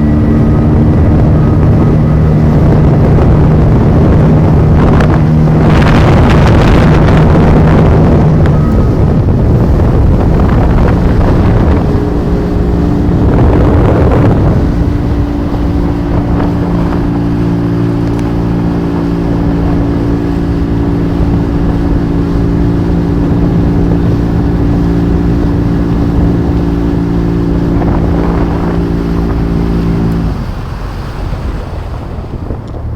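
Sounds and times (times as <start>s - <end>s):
boat engine running: 0.0s - 32.9s
water rushing: 0.0s - 32.9s
wind rushing: 0.0s - 32.9s.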